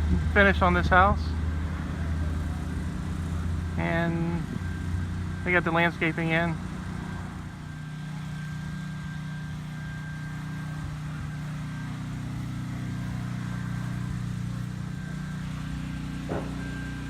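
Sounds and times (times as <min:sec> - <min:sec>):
faint high whine: 0:00.0 - 0:17.0
low mechanical hum: 0:00.0 - 0:17.0.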